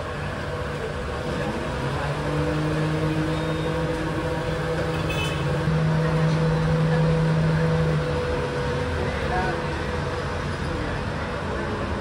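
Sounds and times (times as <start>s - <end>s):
street traffic engine hum: 0.0s - 12.0s.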